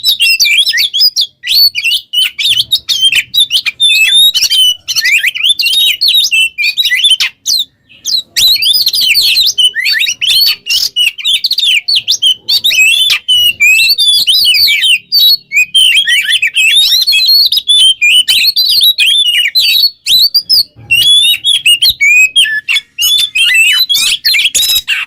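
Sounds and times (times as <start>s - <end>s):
bird singing whistles and trills: 0.0s - 25.0s.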